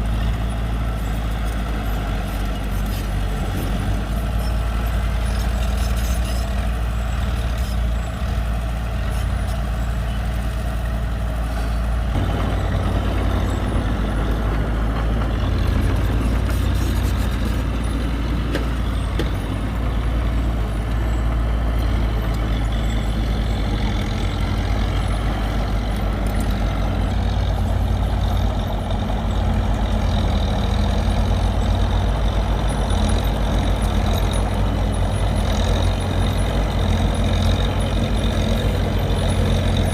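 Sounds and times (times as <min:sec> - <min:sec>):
heavy diesel machinery rumbling: 0:00.0 - 0:39.9.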